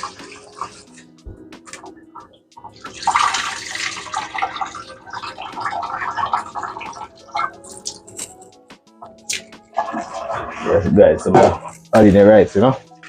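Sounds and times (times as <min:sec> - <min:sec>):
tap water rushing and splashing: 0:00.0 - 0:08.0, 0:09.7 - 0:12.6.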